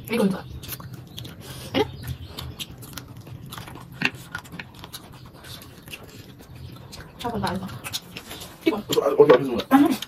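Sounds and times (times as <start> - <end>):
chewing: 0.0 - 10.0.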